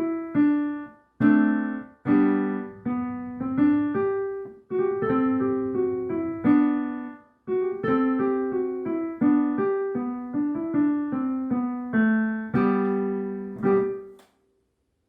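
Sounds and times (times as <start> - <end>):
slow piano melody: 0.0 - 14.3.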